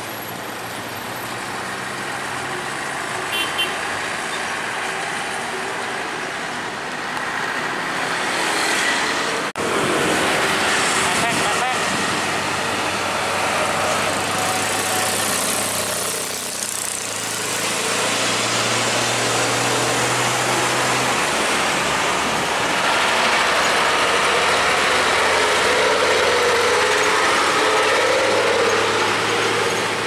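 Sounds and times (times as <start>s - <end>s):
heavy trucks passing: 0.0s - 30.0s
traffic noise: 0.0s - 30.0s.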